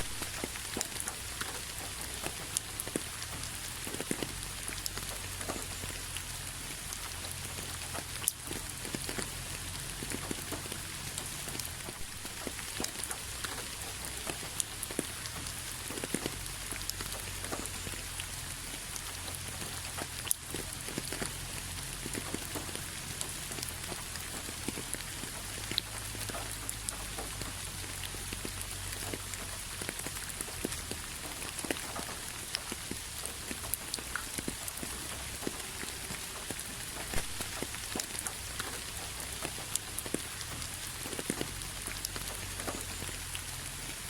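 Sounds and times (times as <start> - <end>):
raindrops ticking on surface: 0.0 - 44.0
steady rain: 0.0 - 44.0.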